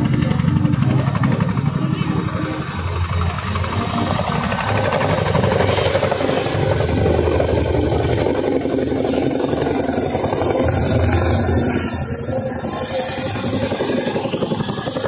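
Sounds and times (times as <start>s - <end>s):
helicopter rotors chopping: 0.0s - 15.0s.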